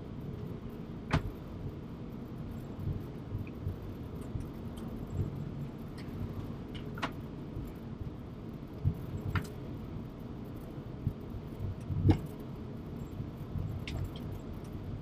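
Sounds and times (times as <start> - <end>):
aircraft cockpit low rumble: 0.0 - 15.0.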